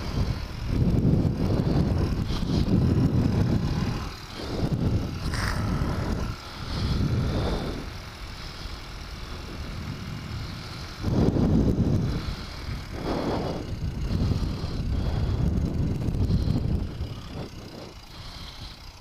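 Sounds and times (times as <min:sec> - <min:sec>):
motorbike engine running: 0:00.0 - 0:19.0
wind buffeting microphone: 0:00.0 - 0:19.0.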